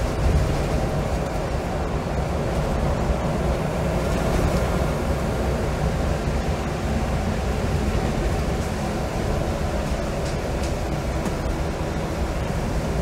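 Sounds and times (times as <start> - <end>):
bus diesel engine running: 0.0 - 13.0
road and tyre noise: 0.0 - 13.0.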